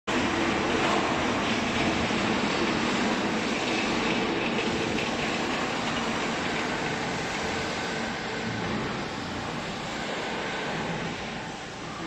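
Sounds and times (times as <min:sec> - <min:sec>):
factory machinery running: 0:00.1 - 0:12.0.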